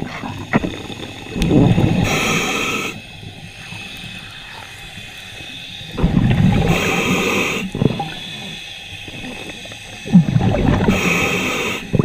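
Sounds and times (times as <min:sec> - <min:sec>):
exhaled bubbles gurgling: 0:00.0 - 0:12.0
diving regulator hiss: 0:00.8 - 0:12.0.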